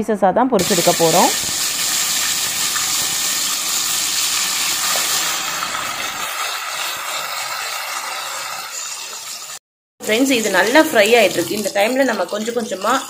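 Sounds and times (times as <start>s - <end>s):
chicken deep-frying in oil: 0.6s - 13.0s.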